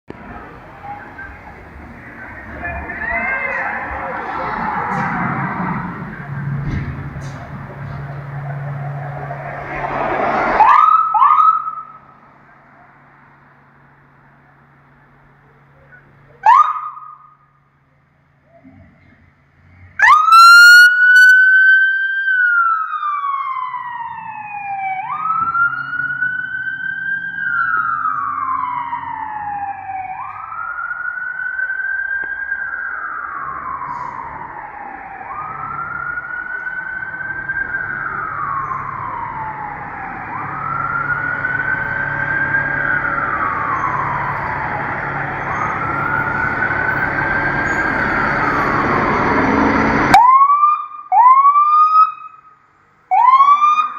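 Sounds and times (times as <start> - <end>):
heavy engine rumble: 0.1 - 20.1, 23.5 - 50.2
siren wailing: 0.3 - 6.7, 8.2 - 12.2, 16.4 - 17.6, 20.0 - 53.9.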